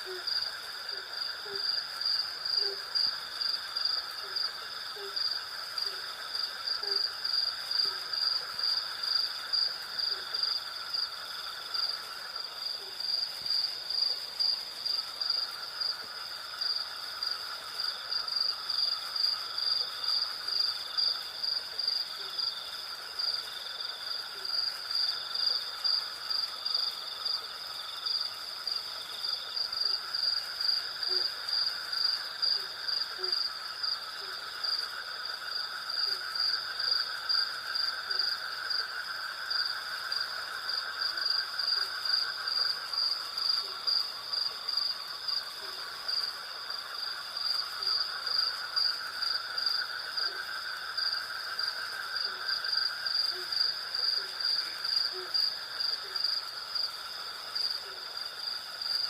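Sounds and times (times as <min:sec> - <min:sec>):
crickets chirping: 0:00.0 - 0:59.0
insect trill: 0:00.0 - 0:59.0.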